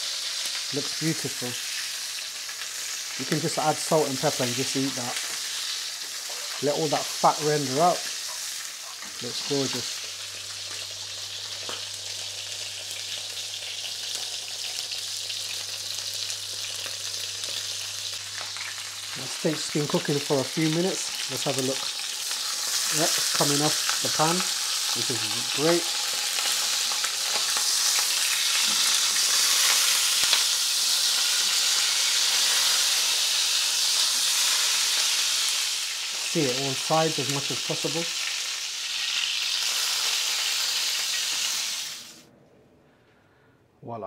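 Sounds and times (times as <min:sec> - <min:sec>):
steak sizzling in a pan: 0:00.0 - 0:42.2.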